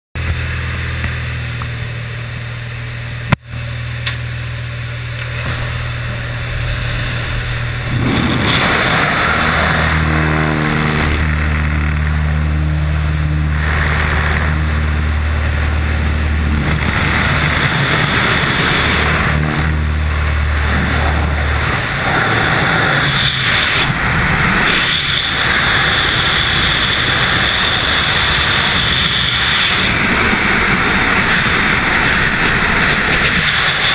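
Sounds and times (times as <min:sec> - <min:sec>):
light aircraft engine droning: 0:00.2 - 0:33.9
wind rushing over microphone: 0:05.3 - 0:33.9.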